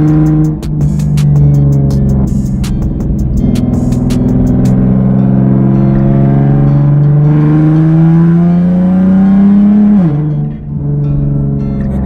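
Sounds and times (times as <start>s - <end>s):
loud car engine accelerating: 0.0s - 12.0s.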